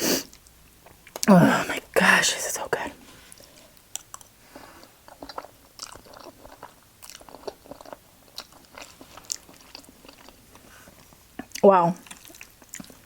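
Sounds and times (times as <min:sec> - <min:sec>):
person chewing food: 0:00.2 - 0:01.9, 0:03.3 - 0:13.0.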